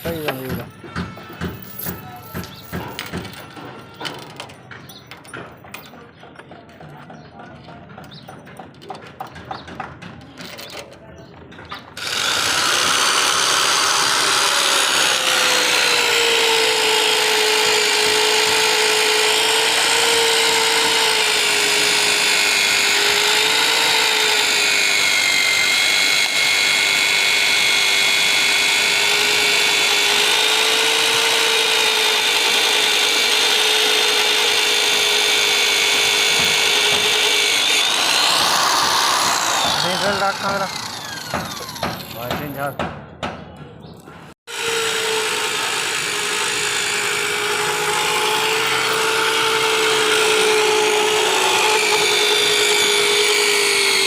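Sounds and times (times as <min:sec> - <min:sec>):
electric drill boring through steel: 0:00.0 - 0:04.5, 0:12.0 - 0:42.6, 0:44.5 - 0:54.0.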